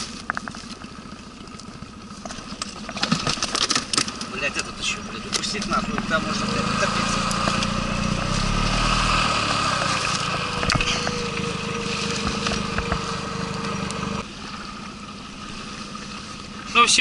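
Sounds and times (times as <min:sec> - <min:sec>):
outboard motor running: 0:00.0 - 0:17.0
water rushing: 0:00.0 - 0:17.0
wind: 0:00.0 - 0:17.0.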